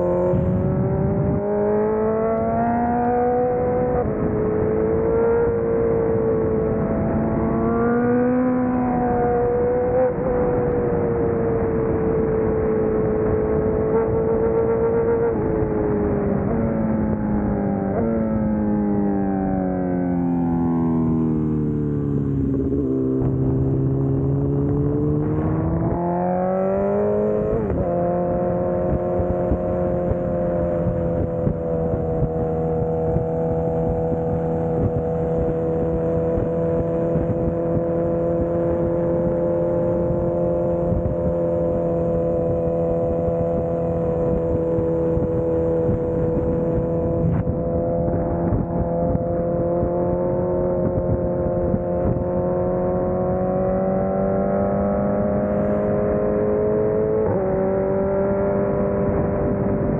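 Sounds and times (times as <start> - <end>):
motorcycle engine accelerating: 0.0 - 59.9
wind noise: 0.0 - 59.9.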